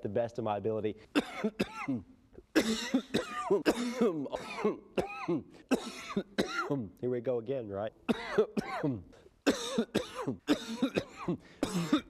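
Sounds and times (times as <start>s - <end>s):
man coughing harshly: 1.1s - 6.9s, 8.1s - 12.0s.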